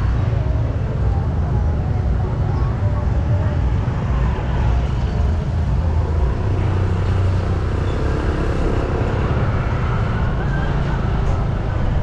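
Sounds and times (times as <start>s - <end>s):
vehicle engines passing: 0.0s - 12.0s.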